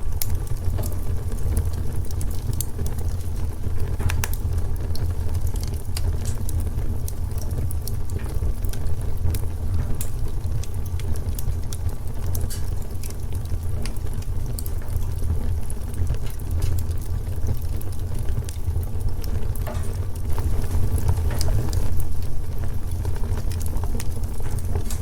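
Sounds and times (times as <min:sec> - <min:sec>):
fire crackling in fireplace: 0:00.0 - 0:25.0.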